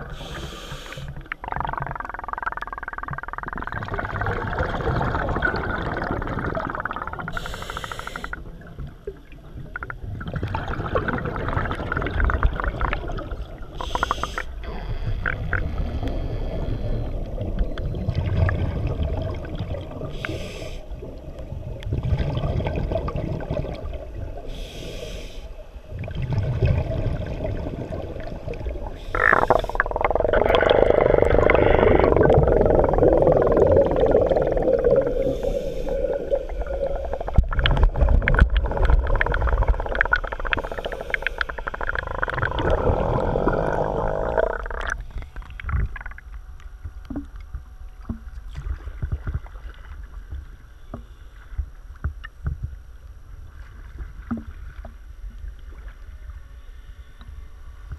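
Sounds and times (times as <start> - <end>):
muffled underwater water noise: 0.0 - 57.9.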